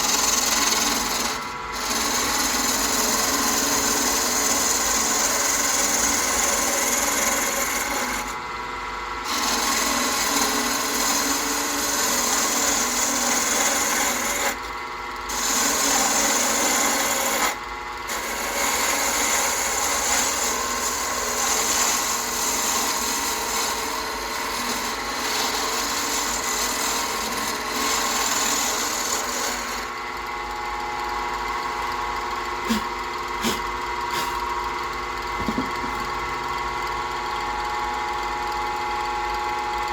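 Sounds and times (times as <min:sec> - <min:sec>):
tool scraping spinning wood: 0:00.0 - 0:08.5, 0:09.2 - 0:37.2
wood lathe motor hum: 0:00.0 - 0:39.9.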